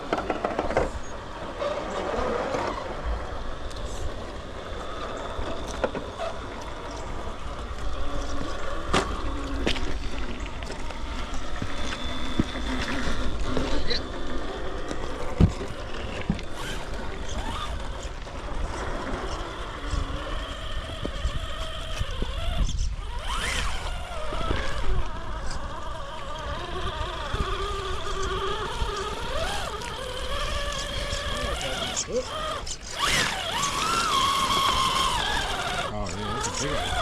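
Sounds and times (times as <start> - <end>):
electric motor whining: 0.0 - 37.0.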